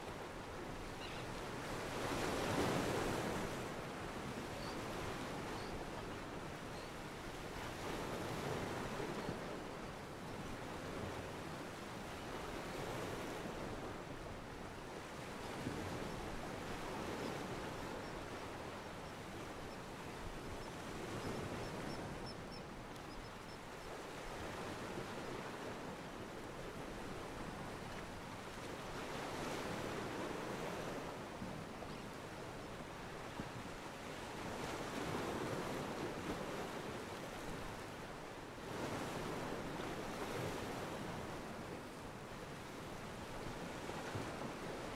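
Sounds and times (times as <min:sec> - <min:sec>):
ocean water washing at a pier: 0:00.0 - 0:23.2, 0:23.8 - 0:44.9.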